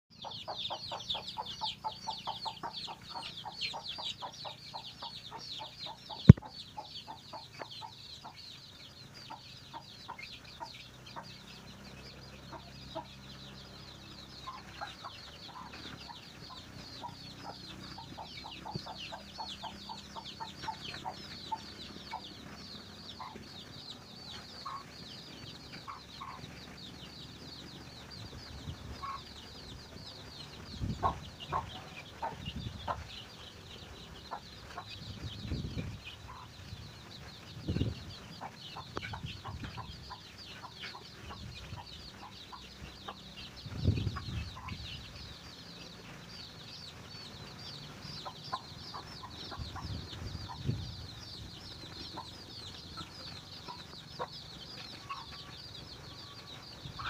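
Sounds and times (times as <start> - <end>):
hen clucking: 0.1 - 27.2, 28.0 - 45.3, 46.8 - 57.0
chicks peeping: 0.1 - 57.0.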